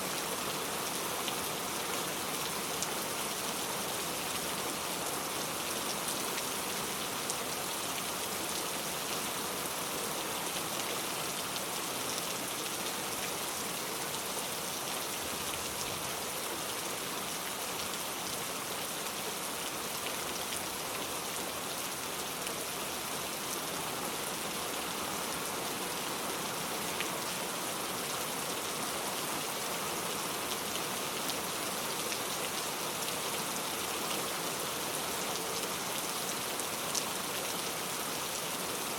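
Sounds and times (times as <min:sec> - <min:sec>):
heavy rain downpour: 0:00.0 - 0:38.9.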